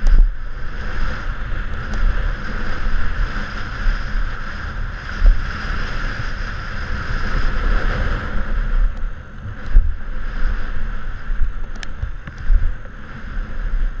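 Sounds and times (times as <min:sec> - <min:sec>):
wind and tyre rush: 0:00.0 - 0:14.0.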